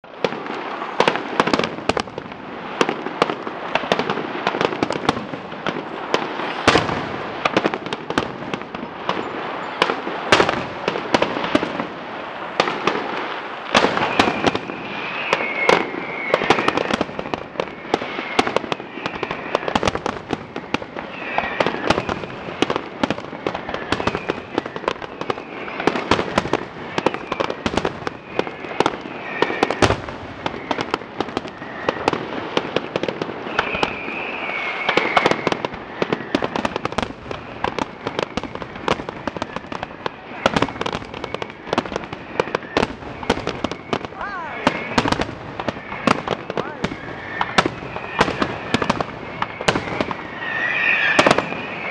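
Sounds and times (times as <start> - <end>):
fireworks bursting with sharp bangs: 0.0 - 51.9
fireworks crackling: 0.0 - 51.9.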